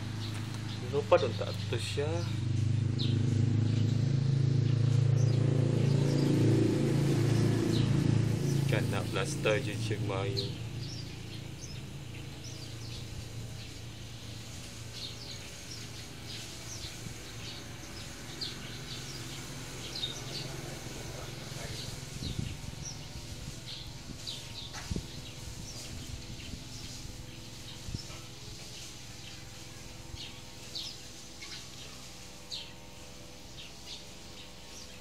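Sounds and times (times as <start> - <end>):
small birds chirping: 0.0 - 35.0
steady low hum: 0.0 - 35.0.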